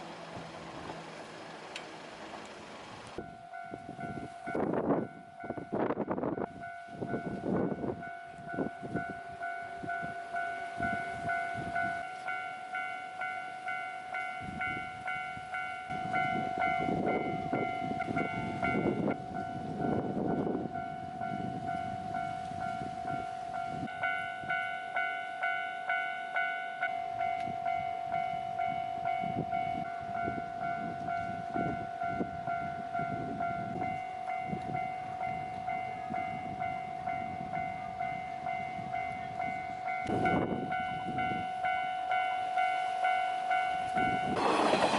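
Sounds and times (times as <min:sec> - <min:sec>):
train rumbling: 0:00.0 - 0:44.9
level crossing warning bell: 0:03.1 - 0:44.9.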